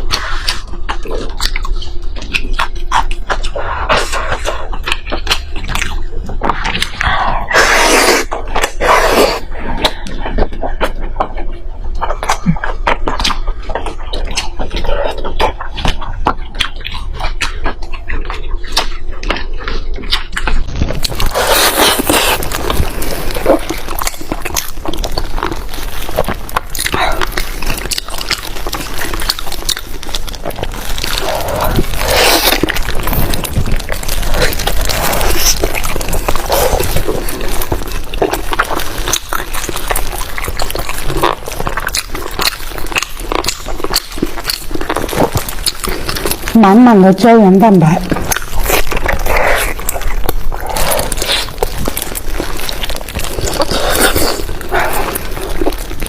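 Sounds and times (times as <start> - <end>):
chewing meat with smacks: 0.0 - 56.0.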